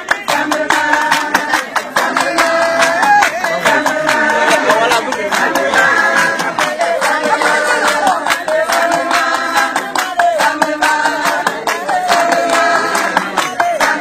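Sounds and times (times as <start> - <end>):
hand claps beat: 0.0 - 14.0
voices singing: 0.0 - 14.0.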